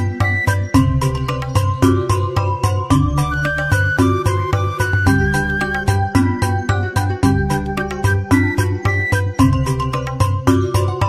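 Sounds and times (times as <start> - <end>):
melodic music with steady beat: 0.0 - 11.0.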